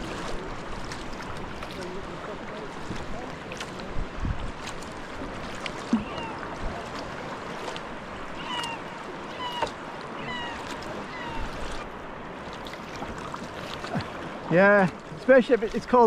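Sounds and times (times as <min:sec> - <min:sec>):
water splashing around kayak: 0:00.0 - 0:16.0.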